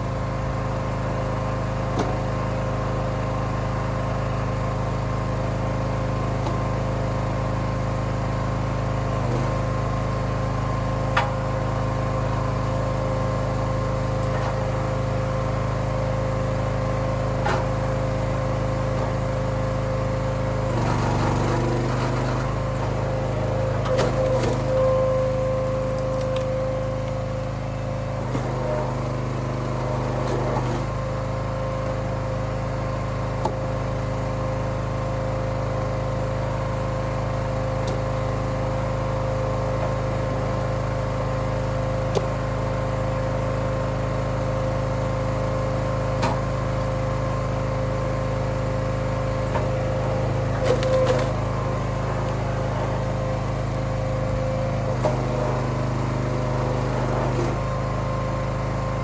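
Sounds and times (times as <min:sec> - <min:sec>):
small gas engine running: 0:00.0 - 0:59.0.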